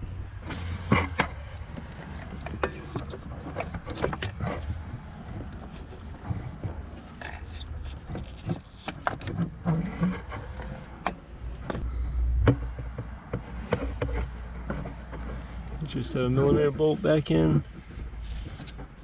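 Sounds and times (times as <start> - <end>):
low background rumble: 0.0 - 19.0
clicks and scrapes of parts handled: 0.4 - 11.9, 12.5 - 16.9, 17.5 - 19.0.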